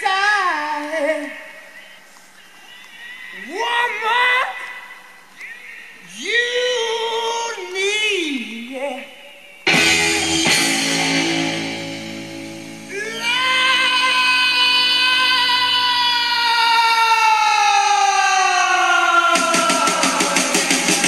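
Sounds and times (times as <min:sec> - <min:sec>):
song with singing voice: 0:00.0 - 0:21.0.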